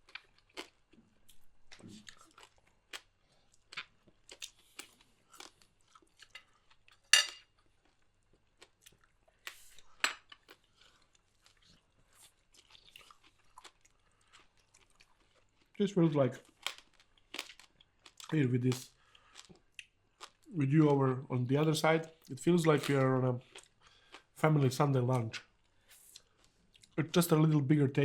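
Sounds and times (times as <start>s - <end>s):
crunching and chewing crispy food: 0.0s - 20.9s, 22.2s - 24.4s, 25.2s - 27.0s.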